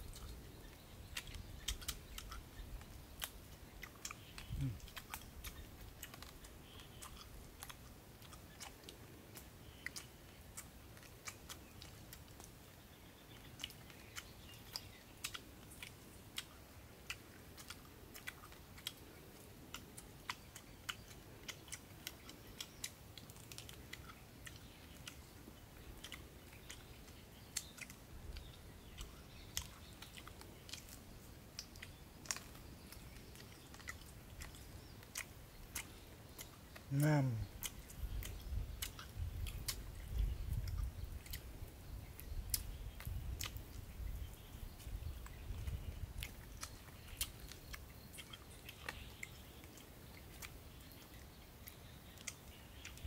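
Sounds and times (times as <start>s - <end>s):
crunchy chewing: 0.0s - 53.0s.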